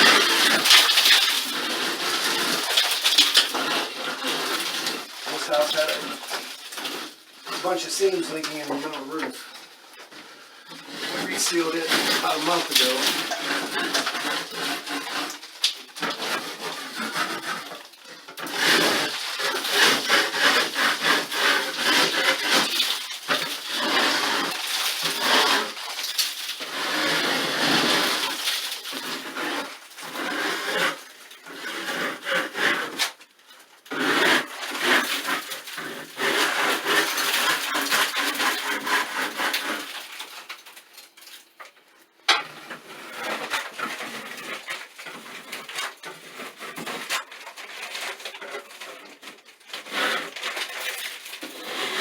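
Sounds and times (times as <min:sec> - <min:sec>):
scraper scratching ceiling: 0:00.0 - 0:41.2, 0:42.5 - 0:52.0.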